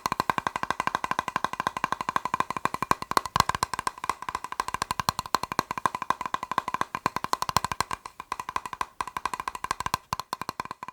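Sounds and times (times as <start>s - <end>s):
fast tapping on a plastic box: 0.0s - 10.9s.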